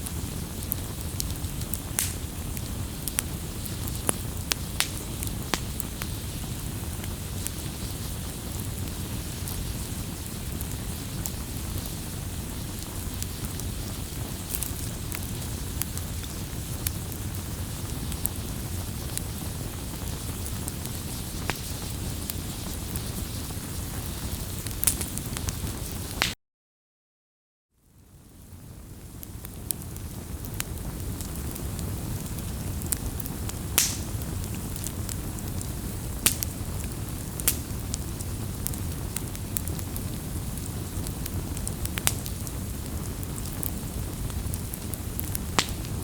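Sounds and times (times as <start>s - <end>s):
wood fire crackling and popping: 0.0s - 26.4s, 28.3s - 46.0s.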